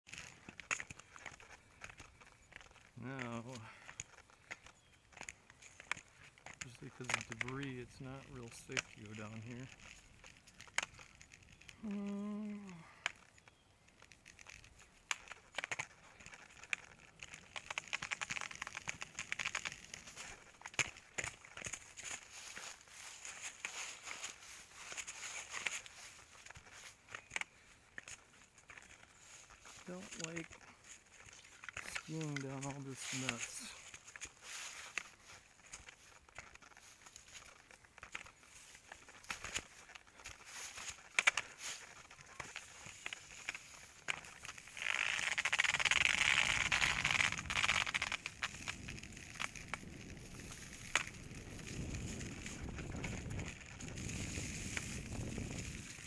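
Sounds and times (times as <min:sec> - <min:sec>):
dry leaves and twigs crackling: 0:00.1 - 0:56.0.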